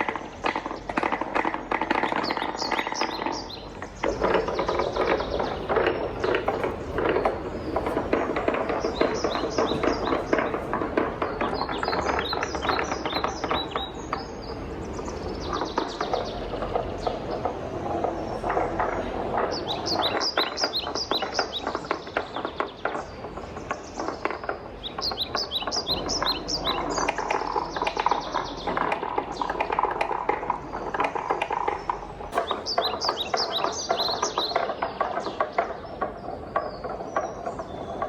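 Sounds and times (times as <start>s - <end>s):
wooden balls rattling down marble run: 0.0s - 38.0s.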